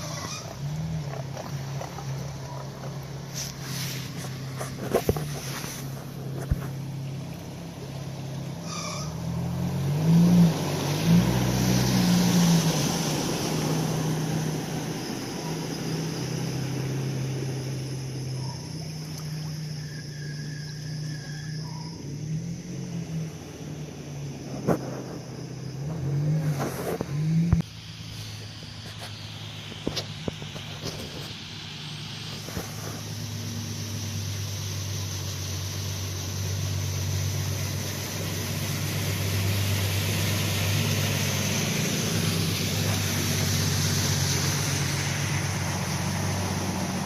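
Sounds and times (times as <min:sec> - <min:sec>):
engine revving: 0:00.0 - 0:47.0.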